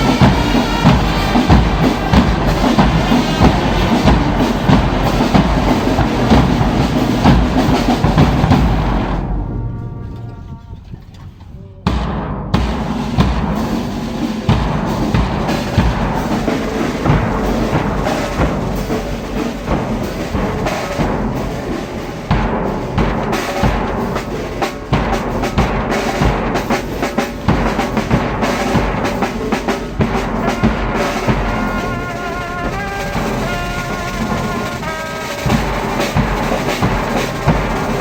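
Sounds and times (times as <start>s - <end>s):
brass instruments: 0.0s - 10.9s, 12.0s - 38.0s
drums beating: 0.0s - 38.0s.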